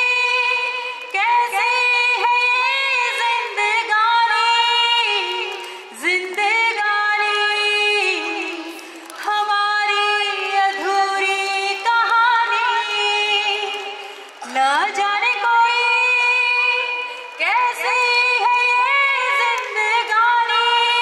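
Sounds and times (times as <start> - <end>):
high voice singing slow melody: 0.0 - 21.0.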